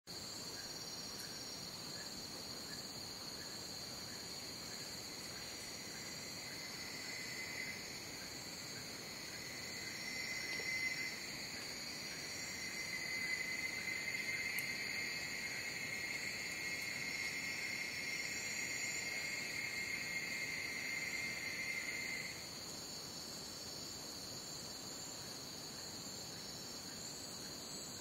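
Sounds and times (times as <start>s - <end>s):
lower insect trill: 0.1s - 28.0s
insects trilling in chorus: 0.2s - 28.0s.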